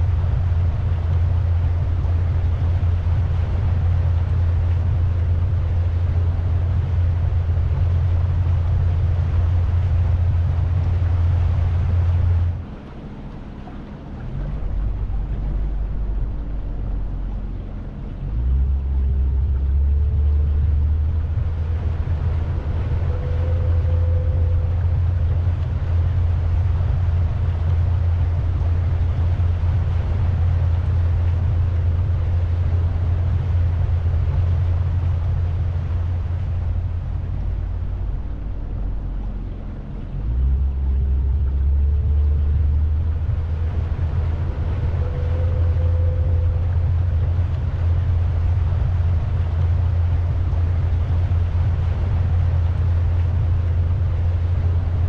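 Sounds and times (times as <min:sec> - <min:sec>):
boat motor rumbling: 0:00.0 - 0:55.0.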